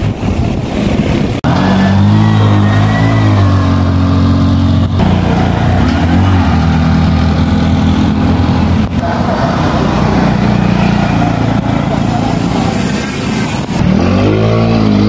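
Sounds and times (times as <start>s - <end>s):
auto-rickshaw engine driving past: 1.4s - 15.0s.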